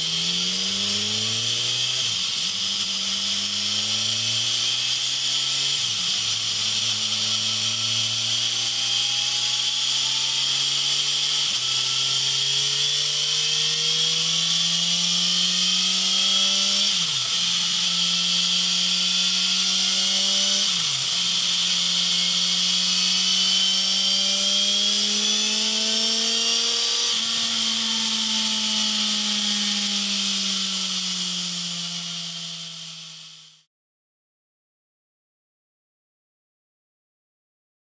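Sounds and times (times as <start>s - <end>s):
motorcycle engine accelerating: 0.0s - 33.7s.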